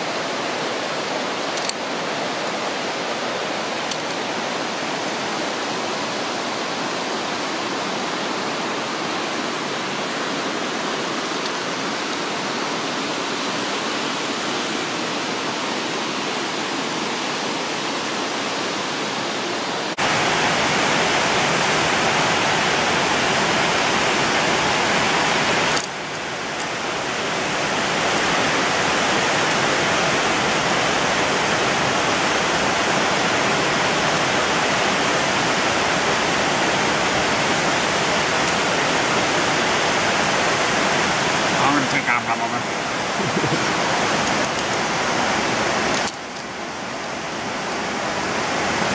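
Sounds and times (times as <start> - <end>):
steady rushing noise: 0.0 - 48.9.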